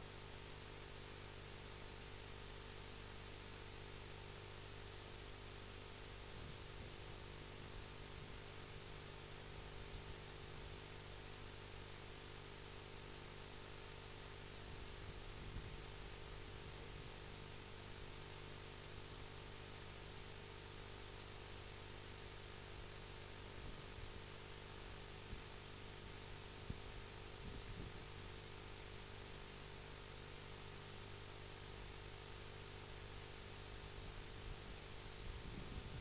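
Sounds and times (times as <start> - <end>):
faint electrical hum: 0.0 - 36.0.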